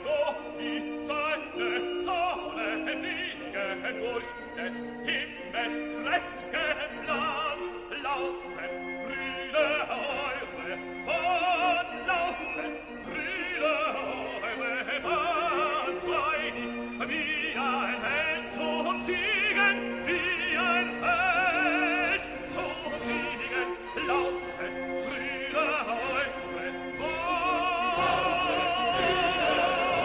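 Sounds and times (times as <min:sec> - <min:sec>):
instrumental accompaniment: 0:00.0 - 0:30.0
operatic singing voice with vibrato: 0:00.0 - 0:30.0.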